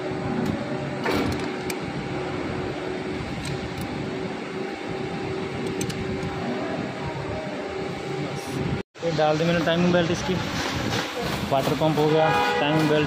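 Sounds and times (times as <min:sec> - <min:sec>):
workshop hum: 0:00.0 - 0:13.0.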